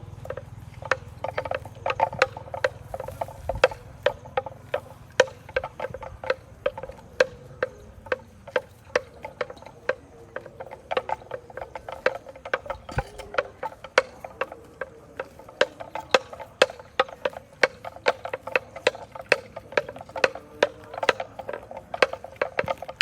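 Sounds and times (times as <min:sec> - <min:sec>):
cow tearing grass: 0:00.0 - 0:23.0.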